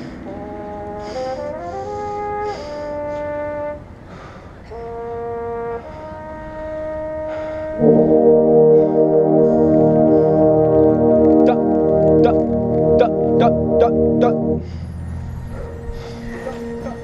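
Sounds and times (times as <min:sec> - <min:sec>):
brass section playing chords: 0:00.0 - 0:14.8, 0:15.6 - 0:17.0.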